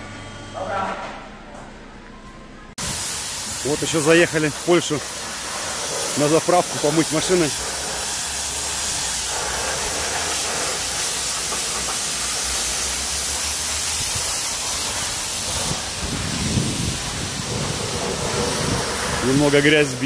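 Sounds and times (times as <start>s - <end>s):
pressure washer spraying water: 2.8s - 20.0s.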